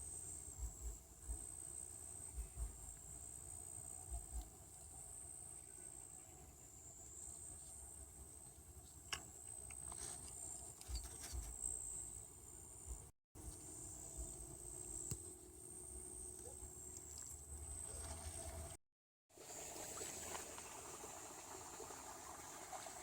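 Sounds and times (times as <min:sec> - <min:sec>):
insects chirping: 0:00.0 - 0:18.8.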